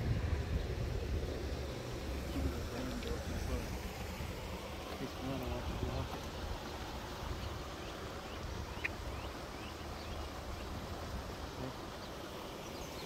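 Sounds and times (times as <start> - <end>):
wind rumbling on microphone: 0.0 - 12.2
steady outdoor hiss: 0.0 - 13.0.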